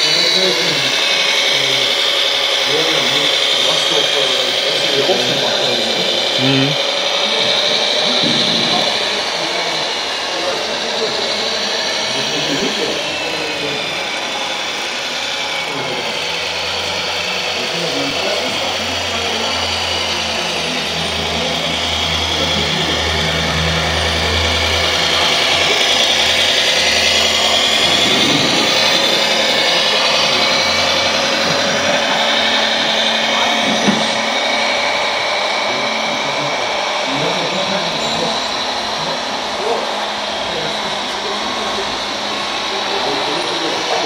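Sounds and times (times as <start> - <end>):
electric motor whining: 0.0 - 44.0.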